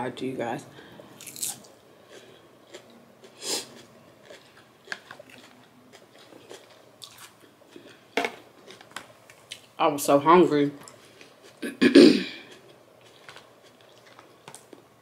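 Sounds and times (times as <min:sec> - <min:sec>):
person chewing salad: 0:01.2 - 0:09.8, 0:10.8 - 0:15.0.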